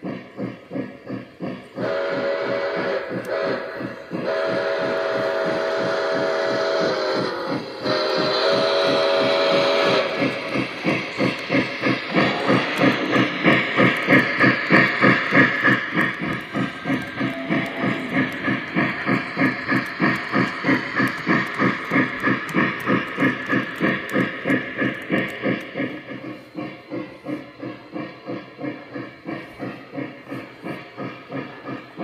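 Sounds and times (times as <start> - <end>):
steam engine chuffing: 0.0 - 32.0
steam hissing: 0.0 - 32.0.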